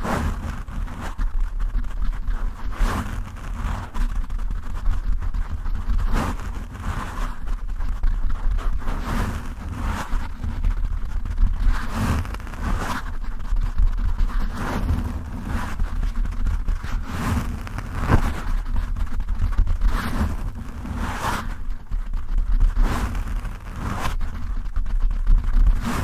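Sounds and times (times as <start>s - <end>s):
heavy low rumble: 0.0s - 26.0s
scratching on microphone windscreen: 0.0s - 26.0s.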